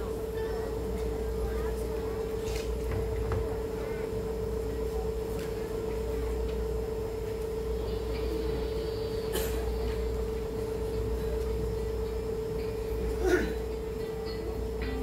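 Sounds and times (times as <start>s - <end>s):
lower hum: 0.0s - 15.0s
steady electrical hum: 0.0s - 15.0s.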